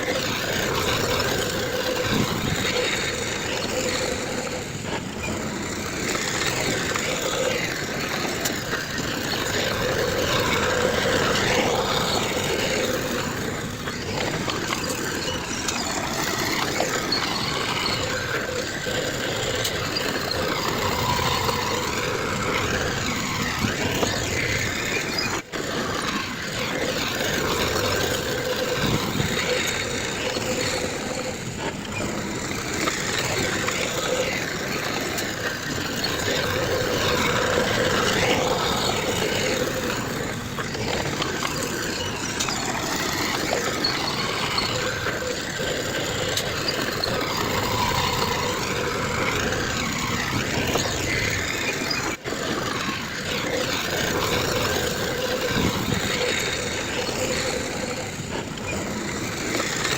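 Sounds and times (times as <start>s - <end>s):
heavy machinery engines running: 0.0s - 59.9s.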